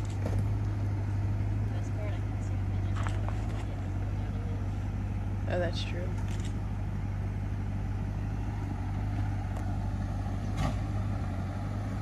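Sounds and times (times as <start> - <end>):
engine running low drone: 0.0 - 12.0.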